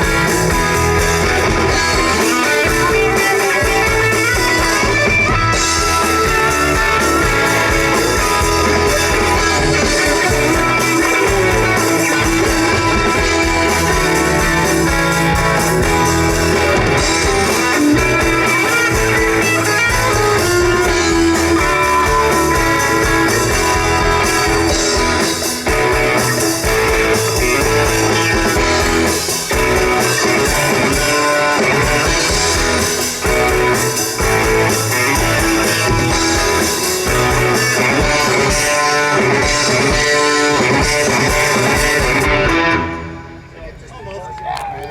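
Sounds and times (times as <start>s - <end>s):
live band playing instrumental: 0.0s - 44.8s
guitar: 0.0s - 44.9s.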